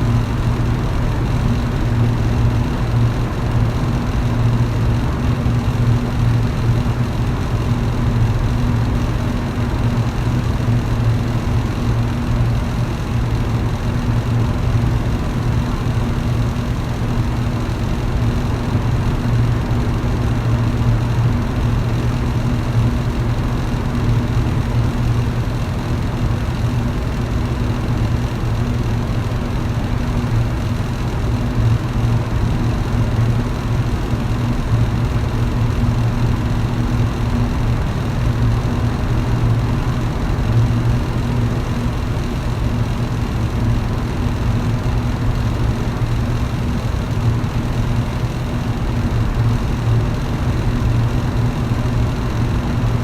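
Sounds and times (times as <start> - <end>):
electric fan motor hum: 0.0 - 53.0.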